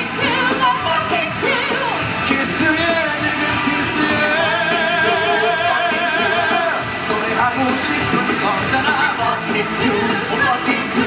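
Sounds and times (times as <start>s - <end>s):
musical theatre singing: 0.0s - 11.0s.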